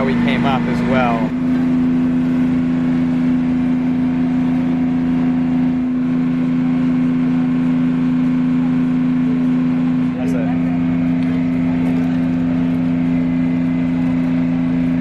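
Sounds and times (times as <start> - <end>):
ferry engine droning: 0.0 - 15.0.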